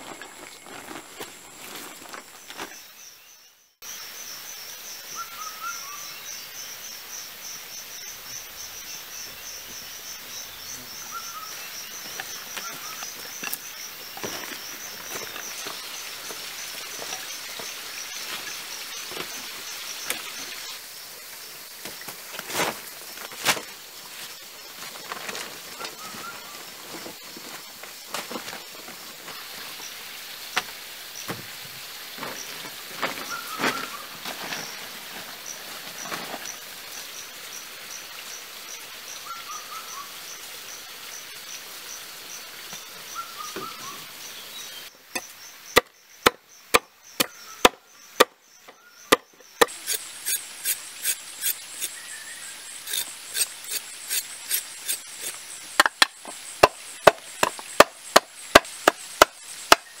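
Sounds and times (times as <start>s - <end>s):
insects chirping: 0.0s - 60.0s.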